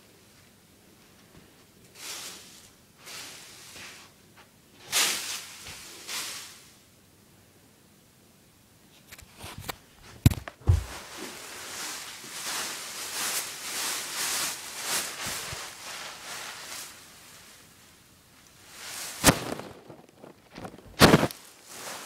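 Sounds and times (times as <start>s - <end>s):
close rustling and scraping: 0.2s - 6.7s, 8.9s - 17.8s, 18.4s - 22.0s.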